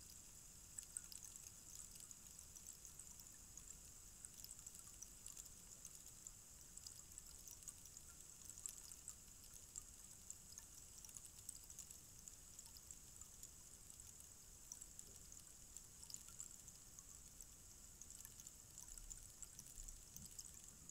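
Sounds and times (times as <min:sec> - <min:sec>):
rainstick trickling patter: 0:00.0 - 0:20.9.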